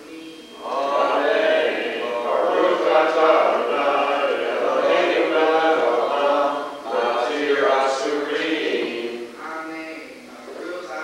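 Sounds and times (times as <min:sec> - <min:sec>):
boy chanting: 0:00.0 - 0:09.4.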